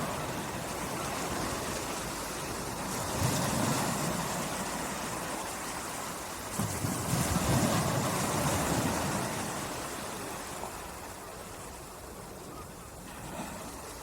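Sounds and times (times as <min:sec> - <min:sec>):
sea waves lapping on shore: 0:00.0 - 0:14.0.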